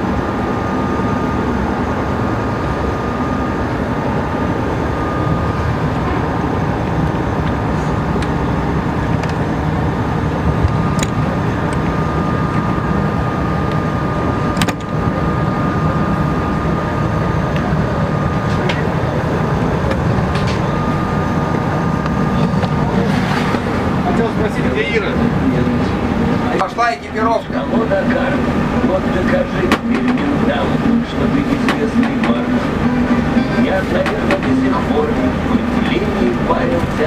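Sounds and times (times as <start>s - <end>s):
boat engine droning: 0.0s - 37.0s
faint high whine: 0.0s - 37.0s.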